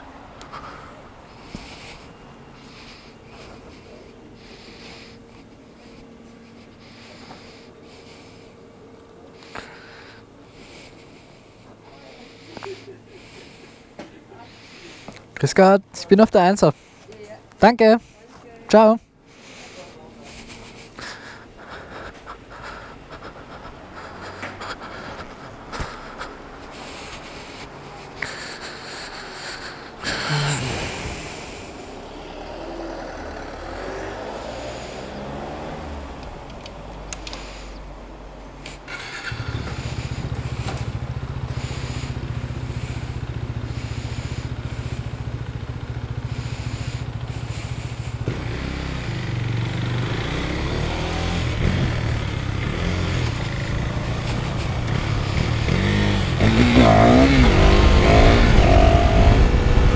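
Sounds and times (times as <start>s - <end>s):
motorcycle engine idling and accelerating: 0.0s - 59.9s.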